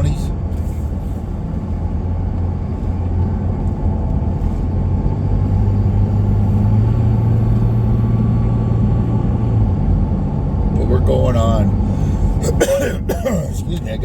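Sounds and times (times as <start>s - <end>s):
car engine hum: 0.0s - 14.0s
road noise inside car: 0.0s - 14.0s.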